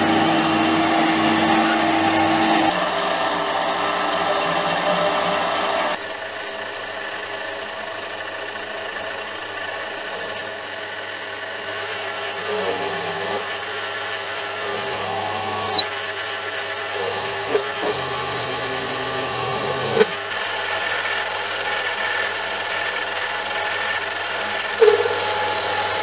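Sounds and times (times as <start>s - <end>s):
drill cutting aluminium: 0.0s - 6.1s, 10.0s - 26.0s
turning tool cutting metal: 0.0s - 6.3s, 8.9s - 26.0s
lathe motor hum: 0.0s - 26.0s.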